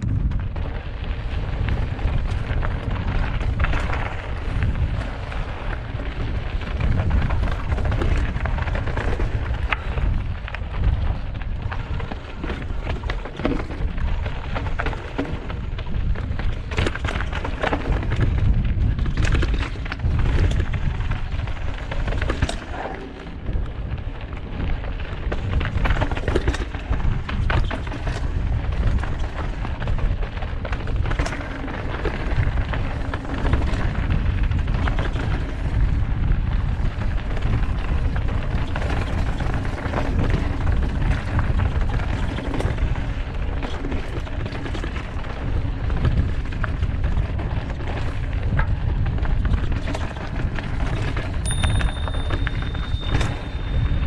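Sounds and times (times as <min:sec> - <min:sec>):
mountain bike rattling on rocky trail: 0:00.0 - 0:54.0
wind buffeting microphone: 0:00.0 - 0:54.0.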